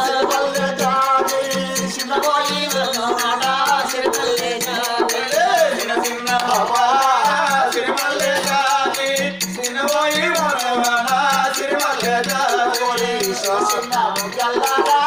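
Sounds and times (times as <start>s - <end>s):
jingling metal percussion: 0.0s - 15.0s
voices singing folk melody: 0.0s - 15.0s.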